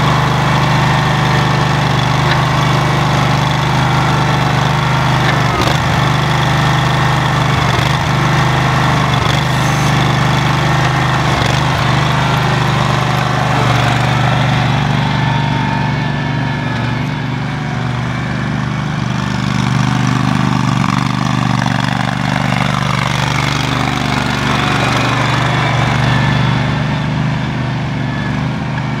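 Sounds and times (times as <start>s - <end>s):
lawn tractor engine running: 0.0s - 29.0s.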